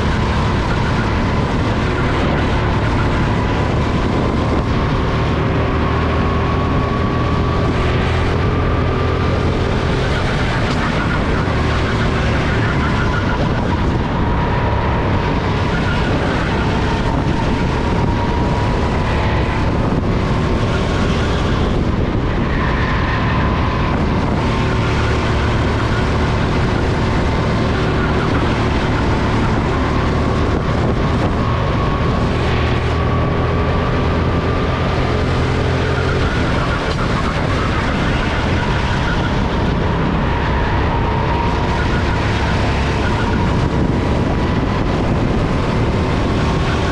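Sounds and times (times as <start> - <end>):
go-kart engine running: 0.0 - 46.9
wind noise on microphone: 0.0 - 46.9.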